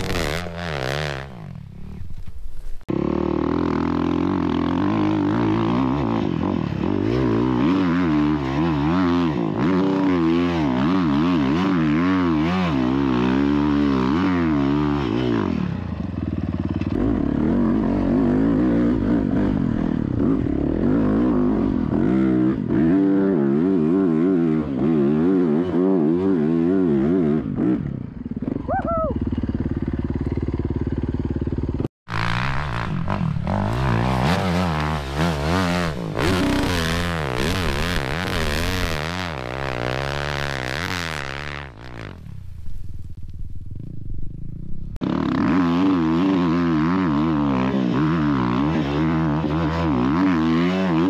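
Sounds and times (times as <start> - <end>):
dirt bike engine revving: 0.0 - 28.6, 29.2 - 51.0.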